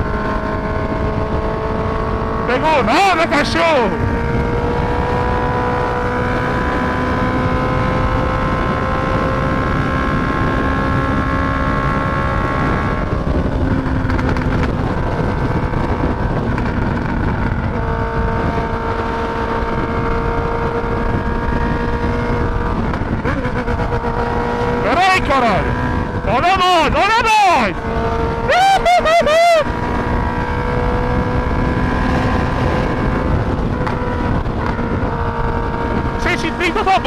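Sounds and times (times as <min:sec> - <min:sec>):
motorcycle engine cruising: 0:00.0 - 0:37.0
wind noise: 0:00.0 - 0:37.0.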